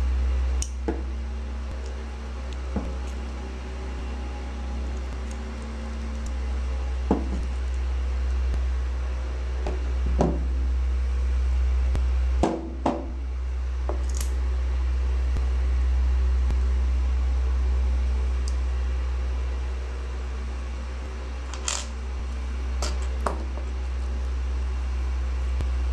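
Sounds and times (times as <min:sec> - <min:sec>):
low hum: 0:00.0 - 0:25.9.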